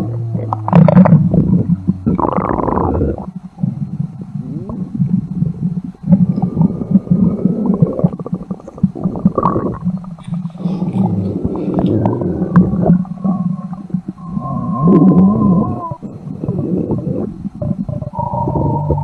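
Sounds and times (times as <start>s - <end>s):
stomach gurgling rumble: 0.0s - 19.0s.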